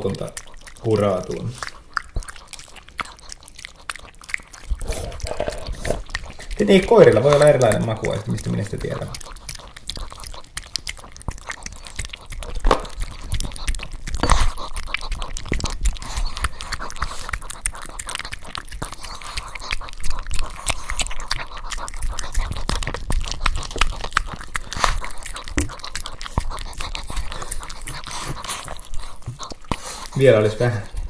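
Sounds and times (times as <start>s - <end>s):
dog chewing and crunching: 0.0s - 31.0s.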